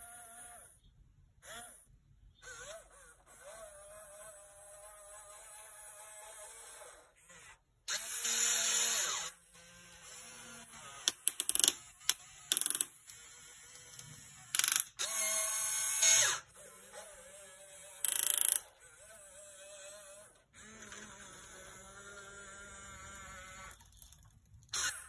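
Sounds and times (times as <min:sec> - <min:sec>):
electric motors whirring: 0:02.4 - 0:24.0, 0:24.6 - 0:25.0.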